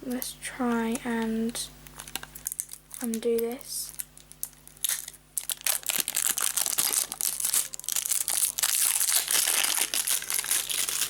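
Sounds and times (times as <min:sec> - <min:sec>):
plastic wrapping crackling: 0:01.9 - 0:11.0.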